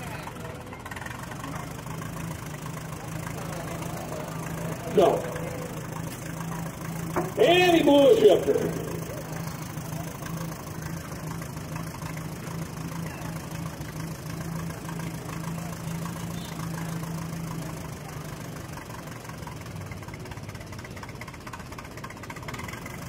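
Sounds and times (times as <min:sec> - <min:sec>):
tractor engine running slowly: 0:00.0 - 0:23.0.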